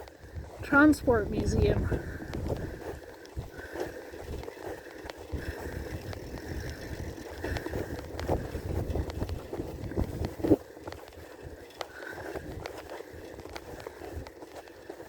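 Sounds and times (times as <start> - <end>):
bicycle rattles and clicks: 0.0 - 15.0
wind buffeting microphone: 0.0 - 15.0.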